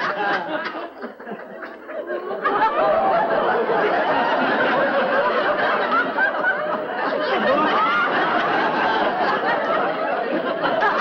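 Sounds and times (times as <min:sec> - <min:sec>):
audience laughter: 0:00.0 - 0:11.0.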